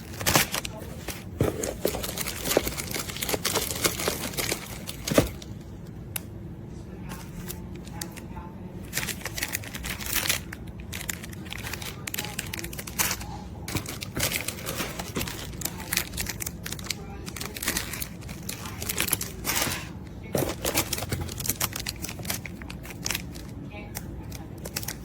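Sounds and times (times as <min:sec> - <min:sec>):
packaging crinkling and rustling: 0:00.0 - 0:05.7, 0:08.8 - 0:23.6, 0:24.2 - 0:25.0.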